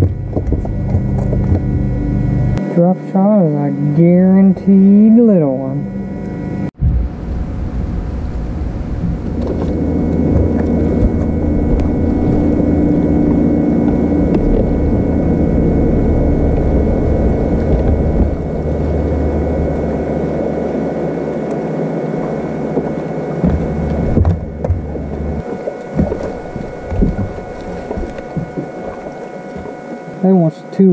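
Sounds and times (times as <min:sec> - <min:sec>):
boat motor rumble: 0:00.0 - 0:30.9
faint steady whine: 0:00.0 - 0:30.9.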